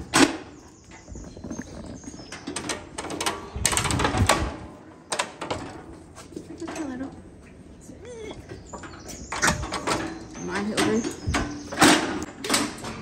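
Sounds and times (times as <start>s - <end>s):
metal gates clanking and rattling: 0.0s - 7.3s, 8.4s - 13.0s.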